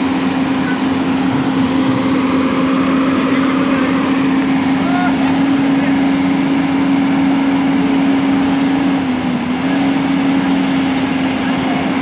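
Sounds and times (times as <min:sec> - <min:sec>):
diesel machinery humming: 0:00.0 - 0:12.0.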